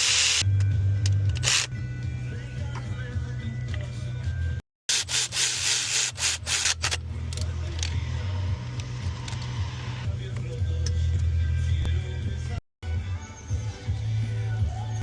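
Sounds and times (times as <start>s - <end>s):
background music with bass: 0.0s - 4.6s, 5.2s - 15.0s.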